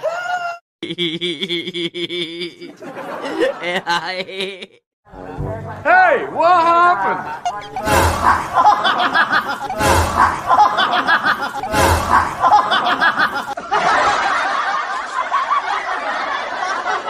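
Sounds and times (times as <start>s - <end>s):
people laughing: 0.8s - 4.8s, 7.0s - 17.0s.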